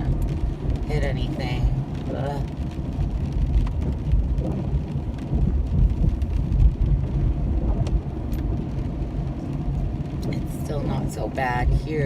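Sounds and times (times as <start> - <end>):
car tyre and engine rumble: 0.0 - 12.0.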